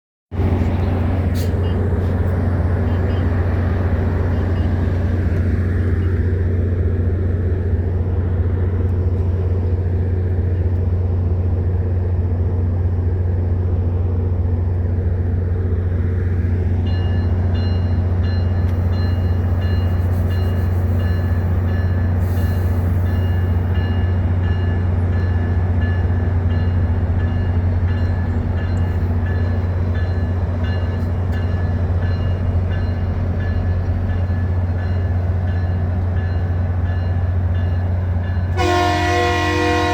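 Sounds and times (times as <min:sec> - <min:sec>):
train engine hum: 0:00.3 - 0:39.9.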